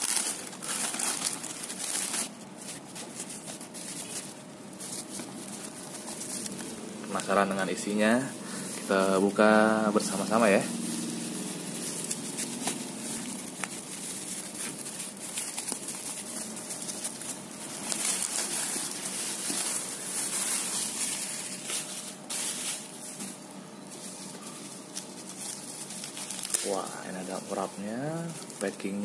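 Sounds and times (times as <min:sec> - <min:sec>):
bubble wrap crinkling: 0:00.0 - 0:29.0
plastic bag rustling: 0:00.0 - 0:29.0.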